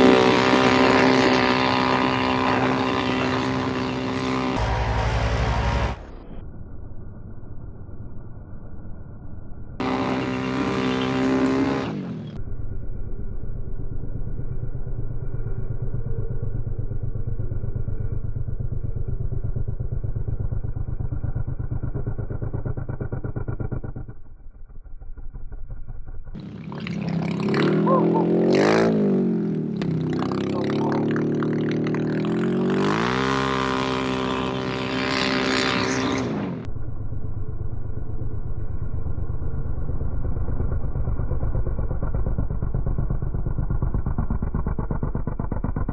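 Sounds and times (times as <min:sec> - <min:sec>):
vehicle engine revving and idling: 0:00.0 - 0:06.4, 0:09.8 - 0:45.9.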